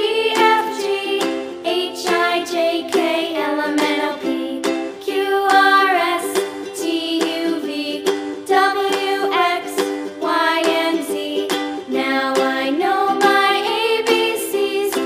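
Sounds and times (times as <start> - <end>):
ukulele-like strumming melody: 0.0 - 15.0.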